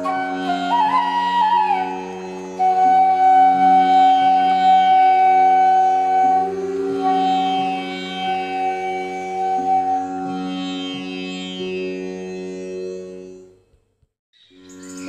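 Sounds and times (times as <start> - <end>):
instrumental melody over drone: 0.0 - 13.7.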